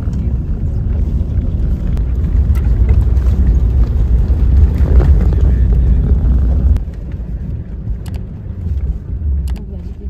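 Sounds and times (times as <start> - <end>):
vehicle rumble from inside cabin: 0.0 - 10.0.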